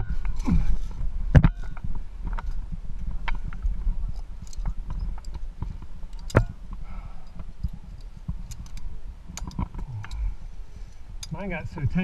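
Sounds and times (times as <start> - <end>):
low rumble: 0.0 - 12.0
carabiners clicking on steel cable: 1.4 - 11.5.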